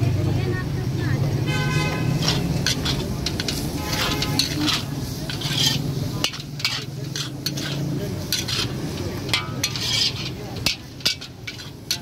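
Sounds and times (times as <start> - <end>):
vegetables sizzling in a pan: 0.0 - 12.0
metal ladle scraping a wok: 1.5 - 12.0.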